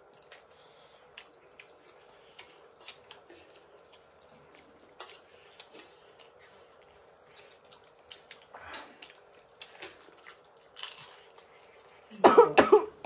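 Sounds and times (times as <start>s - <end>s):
chewing clicks and smacks: 0.0s - 12.1s
faint steady hum: 0.0s - 13.0s.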